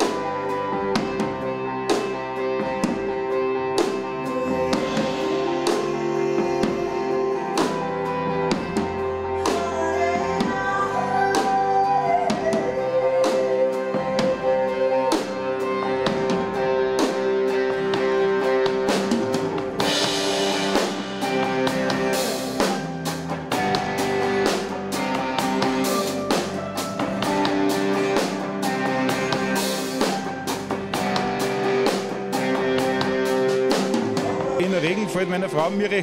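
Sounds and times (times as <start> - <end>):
stage piano chords: 0.0 - 36.0.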